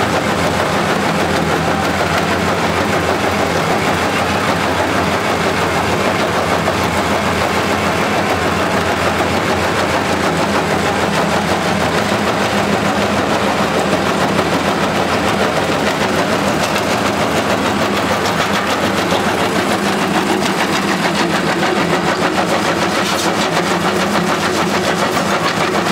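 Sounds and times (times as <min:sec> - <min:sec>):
diesel engine running under load: 0:00.0 - 0:25.9.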